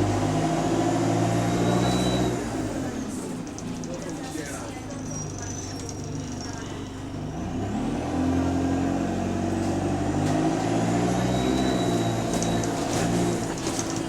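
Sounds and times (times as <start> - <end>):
bus engine accelerating: 0.0 - 14.0.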